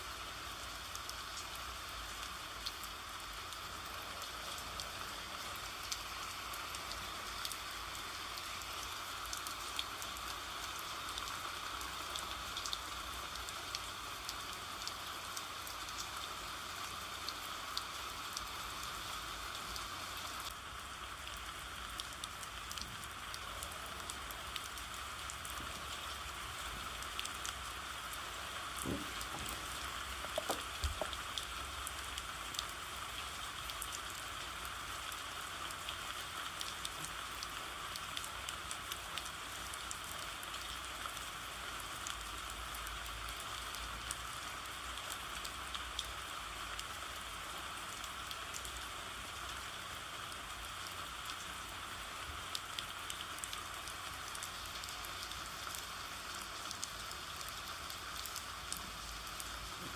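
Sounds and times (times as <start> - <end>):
steady rain with droplet ticks: 0.0 - 59.9.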